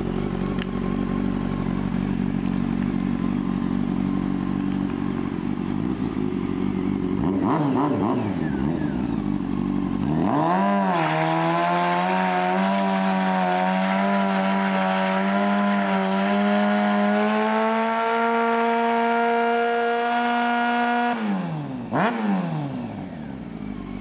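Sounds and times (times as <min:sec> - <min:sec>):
motorcycle engine revving high: 0:00.0 - 0:24.0.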